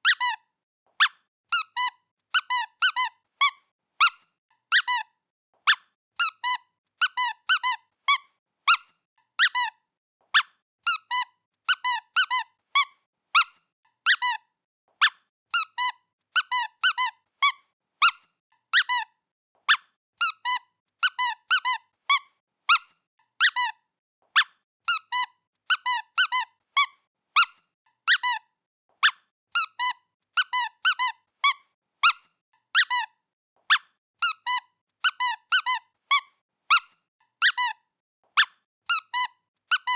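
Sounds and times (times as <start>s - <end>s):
squeaky pet toy squeaking: 0.0s - 39.9s.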